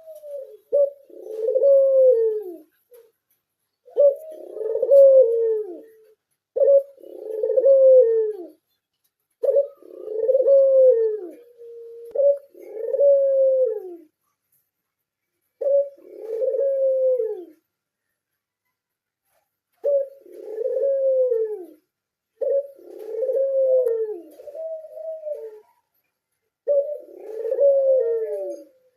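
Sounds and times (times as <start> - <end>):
dove cooing: 0.0 - 3.2, 3.8 - 14.3, 15.5 - 17.7, 19.7 - 28.9.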